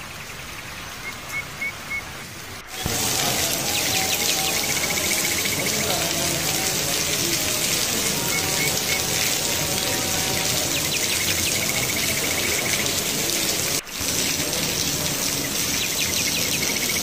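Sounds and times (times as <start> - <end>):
heavy rain on wet pavement: 0.0 - 17.0.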